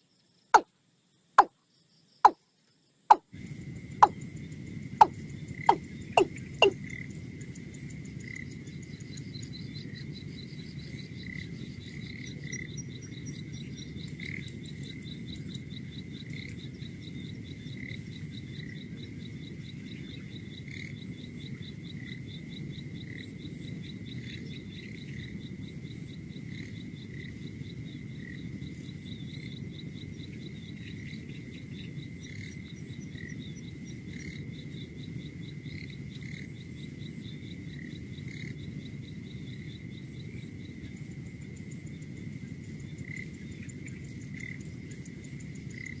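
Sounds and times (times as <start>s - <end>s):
insects chirping: 0.0s - 46.0s
insects trilling: 0.0s - 46.0s.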